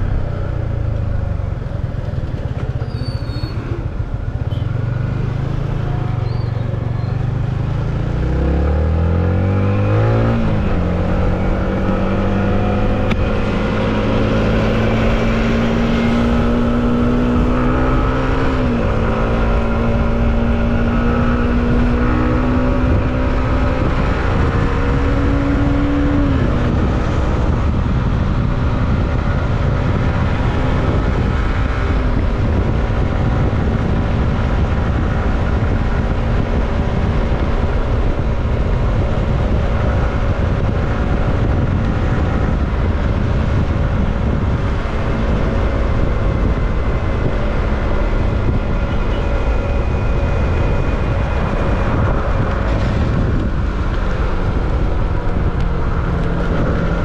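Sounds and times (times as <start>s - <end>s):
motorcycle engine cruising: 0.0s - 57.0s
wind noise: 0.0s - 57.0s.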